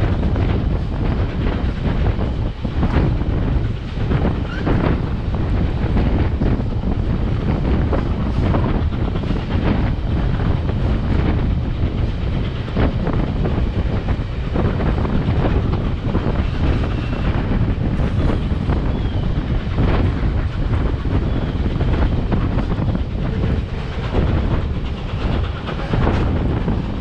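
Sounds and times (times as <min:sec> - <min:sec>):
train wheels rumbling on rail: 0:00.0 - 0:27.0
wind buffeting microphone: 0:00.0 - 0:27.0.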